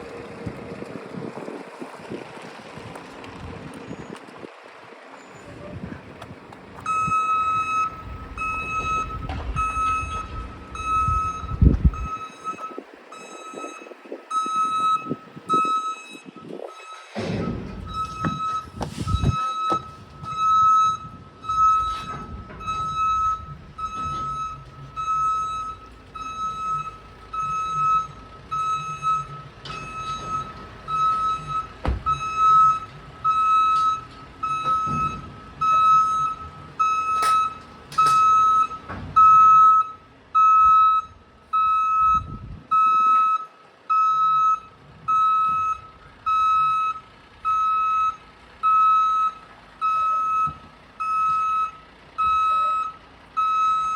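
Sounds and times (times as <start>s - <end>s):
diesel engine running: 0.0s - 42.8s, 43.4s - 53.9s
reversing alarm beeping: 6.8s - 53.9s.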